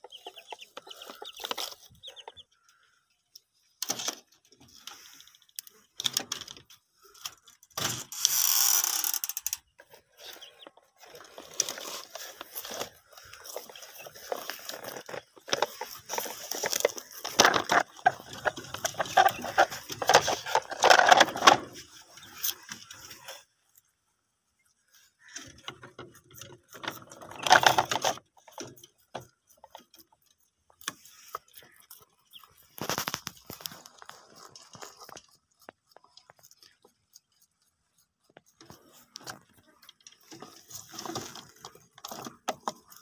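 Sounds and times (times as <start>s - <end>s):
rustles and clicks: 0.0s - 2.8s, 3.5s - 23.4s, 24.9s - 43.0s
rabbits crunching green stalks: 0.0s - 24.0s, 24.6s - 43.0s.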